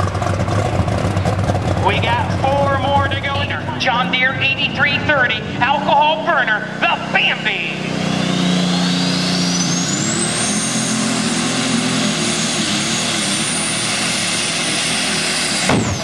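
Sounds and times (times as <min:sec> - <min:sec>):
diesel engine at full power: 0:00.0 - 0:16.0
turbocharger whine: 0:00.0 - 0:16.0.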